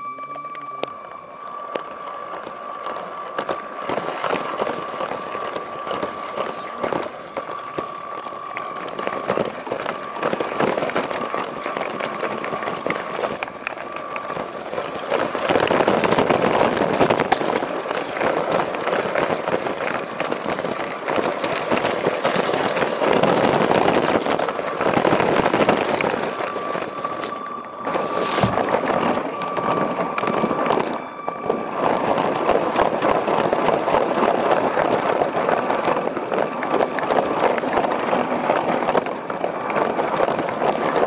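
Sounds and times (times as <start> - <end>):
thin high whine: 0.0 - 41.0.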